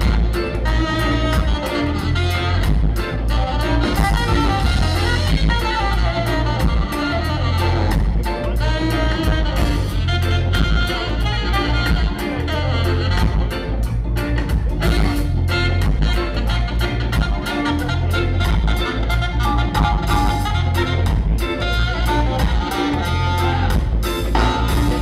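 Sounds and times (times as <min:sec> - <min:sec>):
drum kit: 0:00.0 - 0:25.0
electric bass: 0:00.0 - 0:25.0
keyboard: 0:00.0 - 0:25.0
saxophone and brass horn lines: 0:00.0 - 0:25.0.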